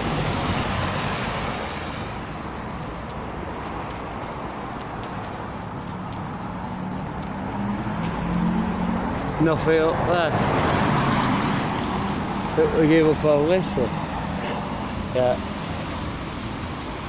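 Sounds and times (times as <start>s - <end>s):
engine hum: 0.0s - 17.0s
road traffic noise: 0.0s - 17.0s.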